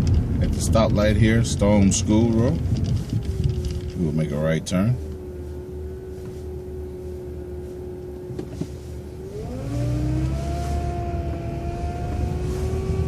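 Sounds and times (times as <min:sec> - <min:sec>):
bus drivetrain whine: 0:00.0 - 0:13.0
bus engine rumble: 0:00.0 - 0:13.0.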